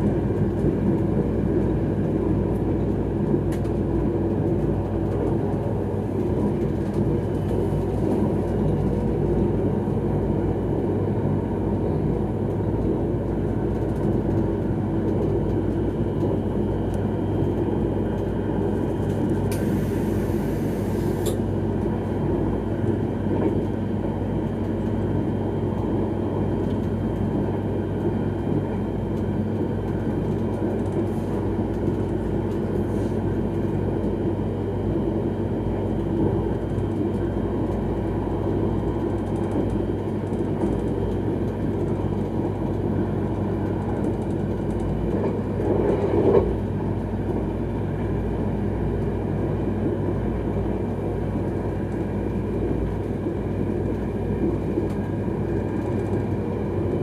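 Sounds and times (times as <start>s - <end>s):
constant low hum: 0.0s - 57.0s
train wheels rumbling on rail: 0.0s - 57.0s.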